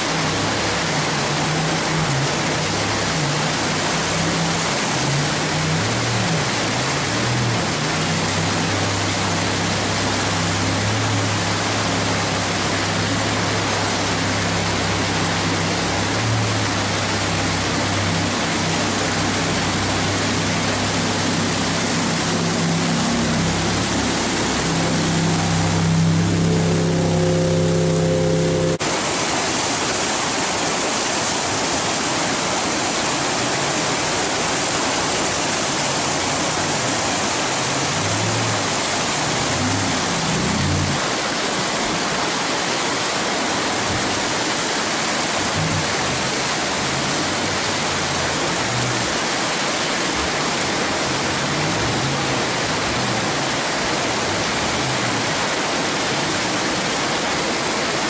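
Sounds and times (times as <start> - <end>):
boat engine: 0.0 - 58.0
whitewater rapids rushing: 0.0 - 58.0.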